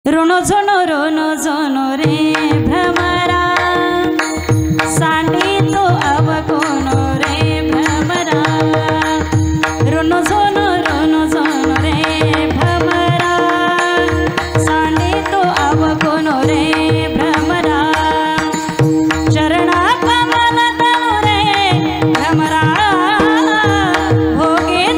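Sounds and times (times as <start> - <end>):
woman singing: 0.1 - 24.9.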